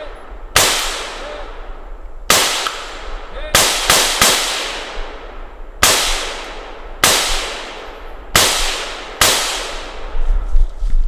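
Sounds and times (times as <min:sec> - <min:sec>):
rifle shots echoing: 0:00.0 - 0:10.2.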